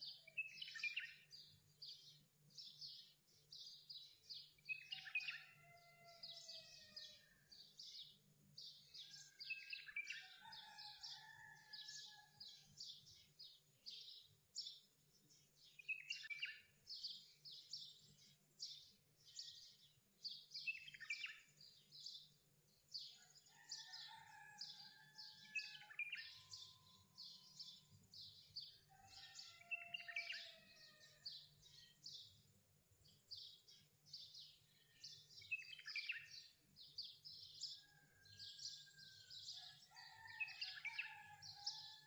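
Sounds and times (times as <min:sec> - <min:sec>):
songbirds chirping and singing: 0:00.0 - 0:42.0.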